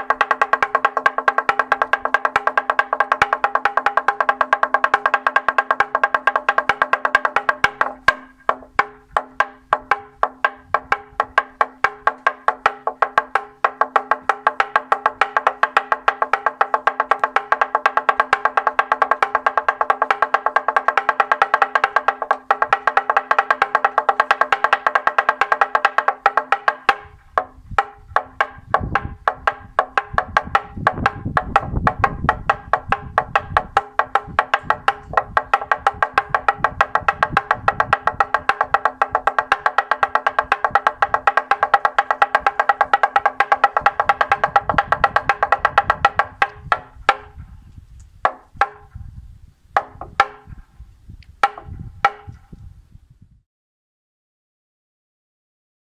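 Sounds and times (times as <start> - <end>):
mallet knocking on wooden board: 0.0 - 47.4, 48.2 - 49.0, 49.8 - 50.6, 51.4 - 52.4.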